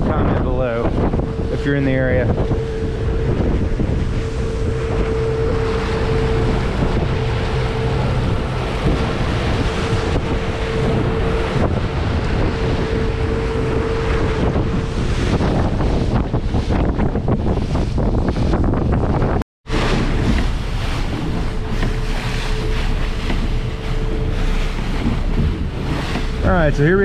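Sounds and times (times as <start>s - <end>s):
outboard motor drone: 0.0s - 27.0s
rush of wake and spray: 0.0s - 27.0s
wind buffeting microphone: 0.0s - 27.0s.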